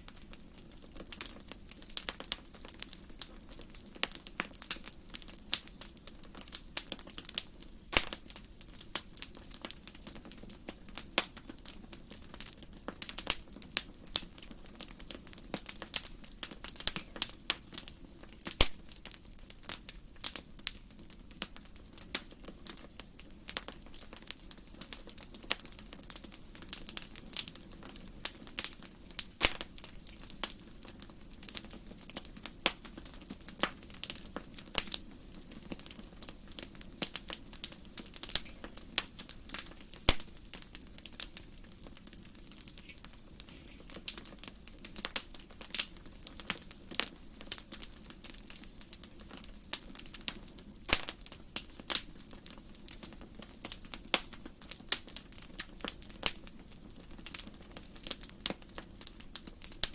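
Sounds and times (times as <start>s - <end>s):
fire popping loudly: 0.0s - 59.9s
wood fire crackling: 0.0s - 59.9s.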